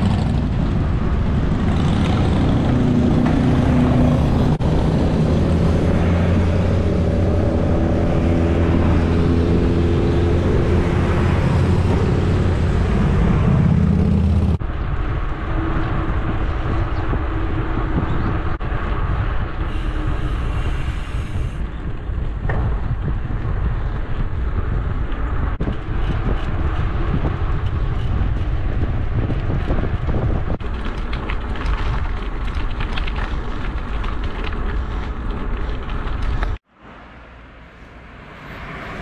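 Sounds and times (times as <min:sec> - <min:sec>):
wind buffeting microphone: 0:00.0 - 0:36.6
bike tyres rumbling on asphalt: 0:00.0 - 0:36.7.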